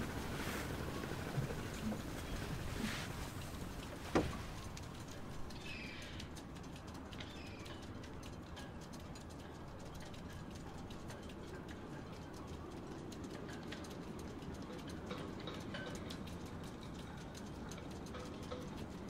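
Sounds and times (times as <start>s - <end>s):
faint ticks: 0.0s - 19.0s.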